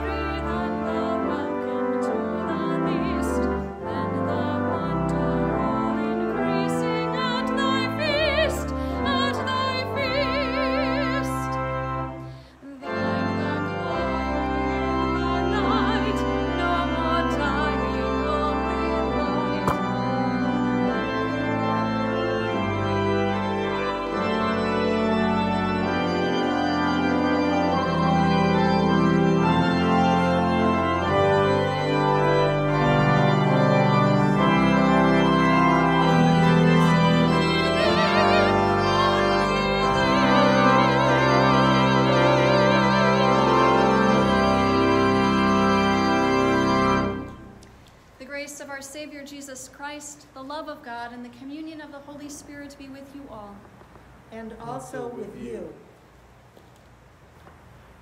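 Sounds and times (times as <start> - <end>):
church organ chords: 0.0 - 47.8.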